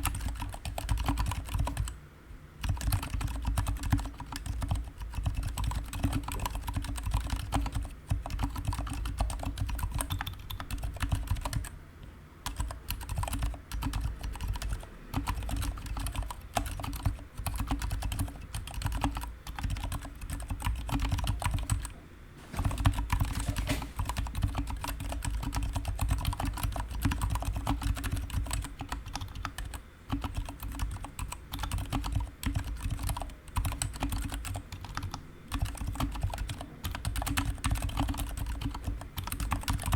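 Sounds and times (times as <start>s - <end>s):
fast typing on mechanical keyboard: 0.0s - 2.0s, 2.6s - 11.7s, 12.4s - 21.9s, 22.5s - 39.9s.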